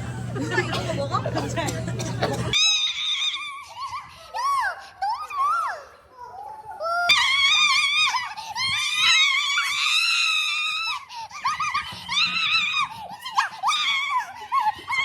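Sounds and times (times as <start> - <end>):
high-pitched wavering vocal cries: 2.5 - 15.0.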